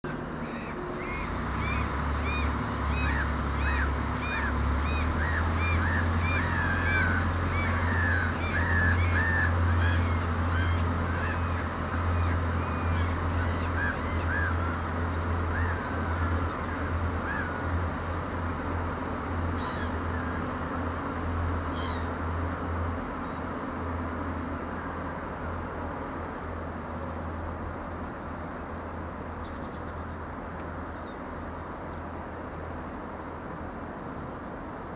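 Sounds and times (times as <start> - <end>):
diesel train engine drone: 0.0 - 34.9.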